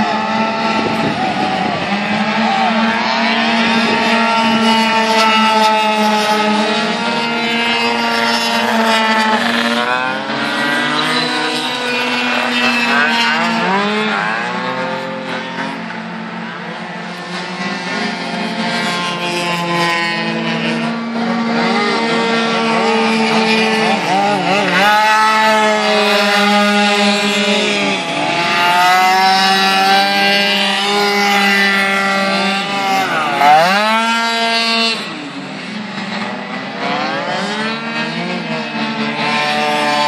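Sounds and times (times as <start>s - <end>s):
scooter engines revving: 0.0s - 40.0s.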